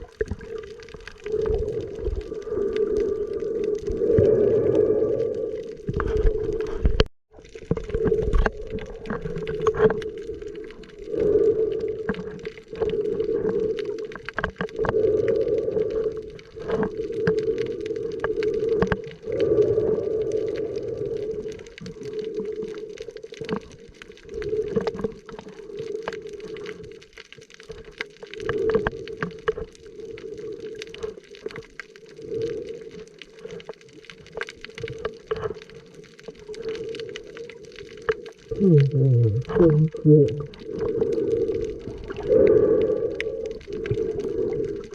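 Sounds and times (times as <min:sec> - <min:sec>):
muffled underwater rush: 0:00.0 - 0:27.0, 0:27.7 - 0:44.9
small sharp clicks and crackles: 0:00.0 - 0:39.6, 0:40.3 - 0:44.9.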